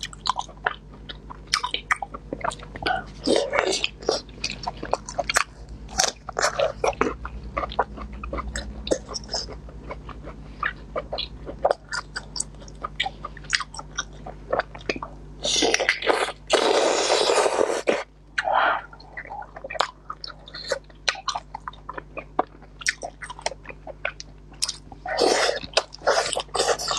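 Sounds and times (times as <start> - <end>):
wet chewing mouth sounds: 0.0 - 26.9.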